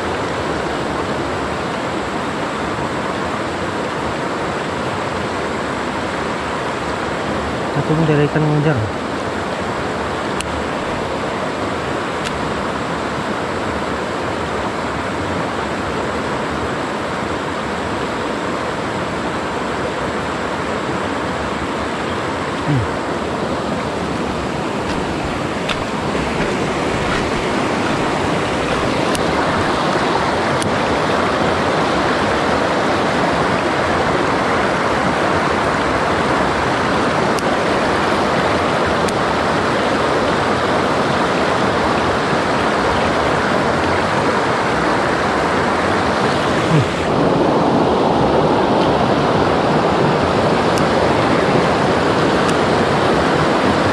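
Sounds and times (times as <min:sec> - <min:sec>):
river rushing over rocks: 0:00.0 - 0:53.9.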